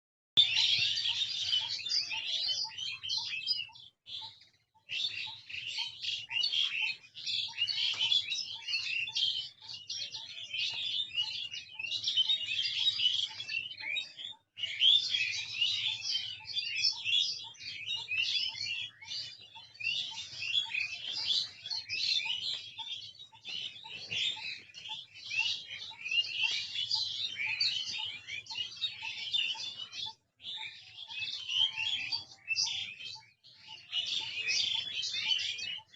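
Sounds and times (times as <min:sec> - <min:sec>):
small birds chirping: 0:00.4 - 0:35.9.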